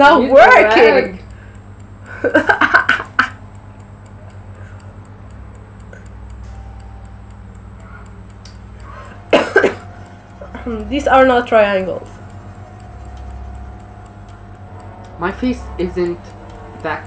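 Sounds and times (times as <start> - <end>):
fast even ticking: 0.0 - 17.0
low steady hum: 0.0 - 17.0.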